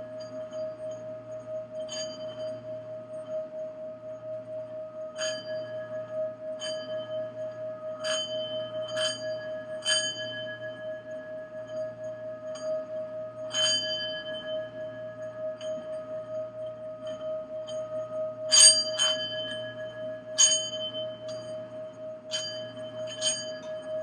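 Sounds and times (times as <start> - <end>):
singing bowl tone: 0.0 - 24.0.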